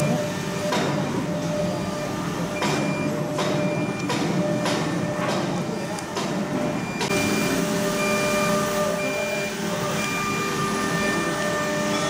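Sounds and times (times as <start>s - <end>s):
machine whirring: 0.0s - 12.0s.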